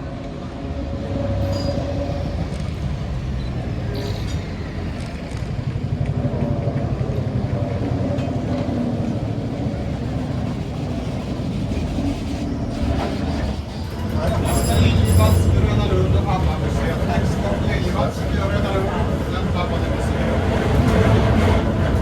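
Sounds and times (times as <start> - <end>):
tram rumbling along track: 0.0 - 22.0.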